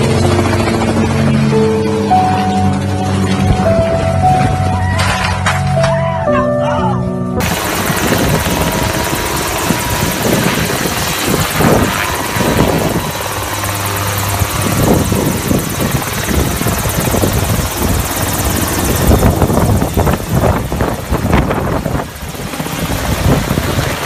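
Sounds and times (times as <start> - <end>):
helicopter engine and rotor chopping: 0.0 - 4.7, 7.4 - 24.0.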